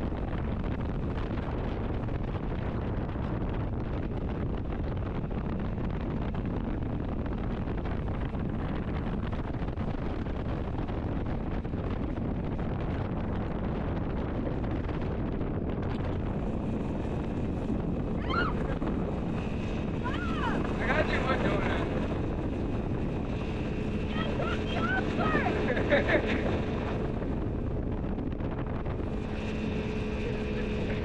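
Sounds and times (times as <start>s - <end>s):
boat motor: 0.0s - 31.0s
hull on water: 0.0s - 31.0s
wind on microphone: 0.0s - 31.0s.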